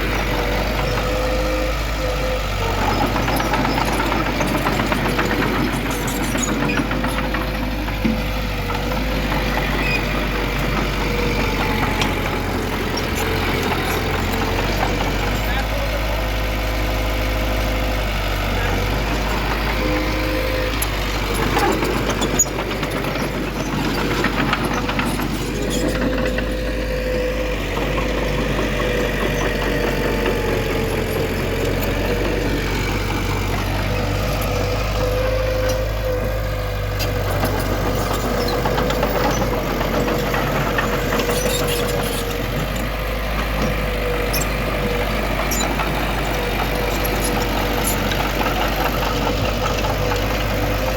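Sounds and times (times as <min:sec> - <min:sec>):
heavy machinery diesel engine running: 0:00.0 - 0:50.9.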